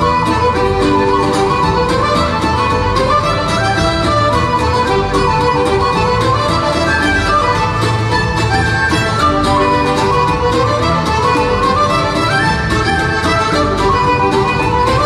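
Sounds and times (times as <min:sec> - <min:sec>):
fiddle melody: 0:00.0 - 0:15.0
folk band playing: 0:00.0 - 0:15.0.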